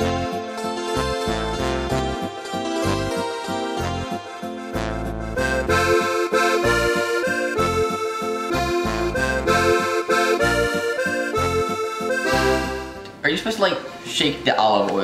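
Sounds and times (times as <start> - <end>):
accordion folk dance music: 0.0 - 15.0.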